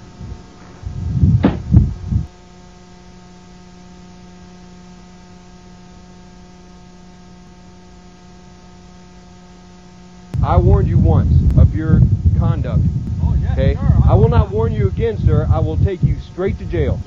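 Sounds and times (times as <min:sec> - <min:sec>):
buzzy electrical hum: 0:00.0 - 0:17.0
loud muffled bursts: 0:00.0 - 0:17.0.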